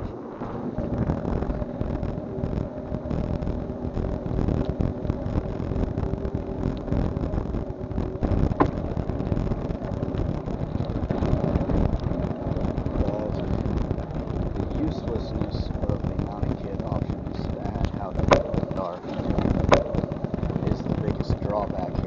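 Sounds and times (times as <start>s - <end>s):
wind buffeting and rattle: 0.0s - 22.0s.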